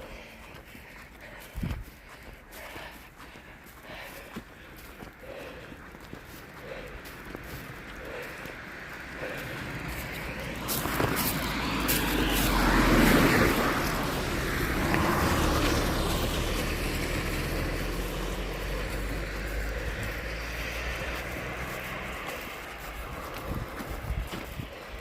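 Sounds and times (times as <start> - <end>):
passing vehicle engine hum: 0.0 - 25.0.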